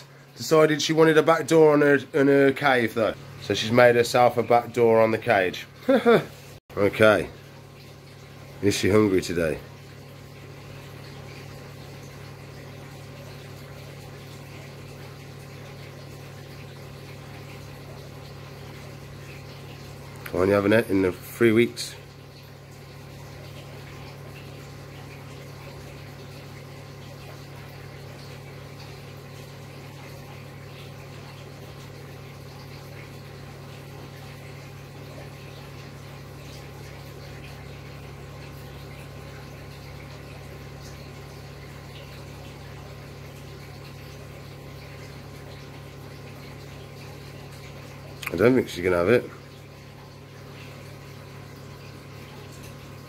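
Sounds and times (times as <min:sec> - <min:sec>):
aquarium air pumps humming: 0:00.0 - 0:53.0.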